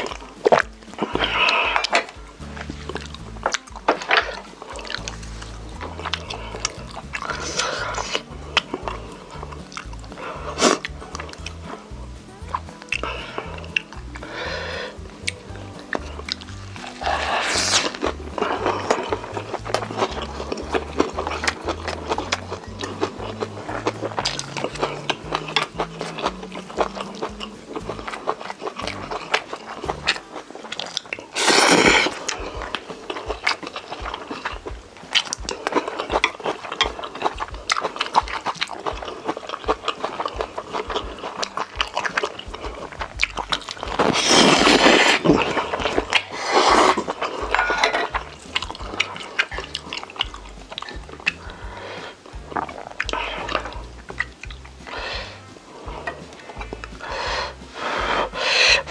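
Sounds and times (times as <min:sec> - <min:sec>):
chewing and mouth smacks: 0:00.0 - 0:58.9.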